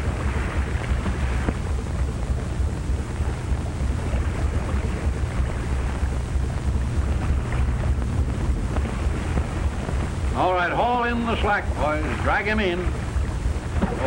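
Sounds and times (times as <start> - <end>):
deep rumble: 0.0 - 14.0
sea rushing: 0.0 - 14.0.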